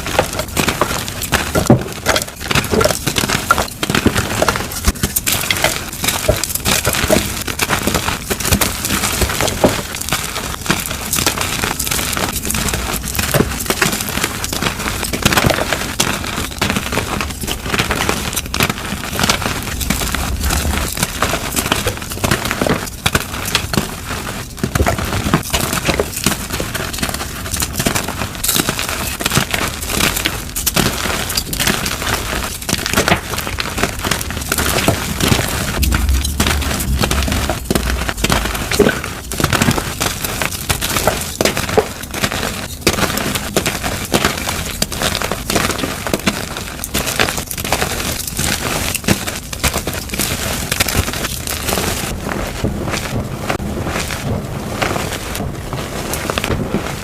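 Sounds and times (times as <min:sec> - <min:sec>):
chalk blocks crunching: 0:00.0 - 0:53.2.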